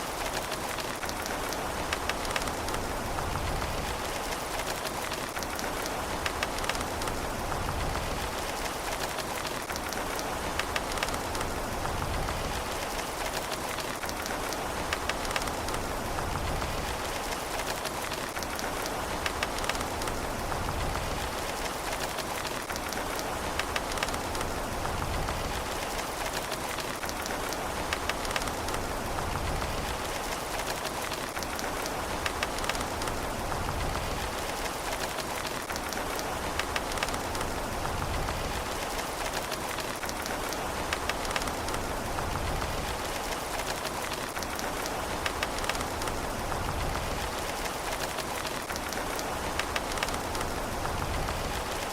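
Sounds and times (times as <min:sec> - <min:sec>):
raindrops pattering on a surface: 0:00.0 - 0:51.9
steady rain: 0:00.0 - 0:51.9.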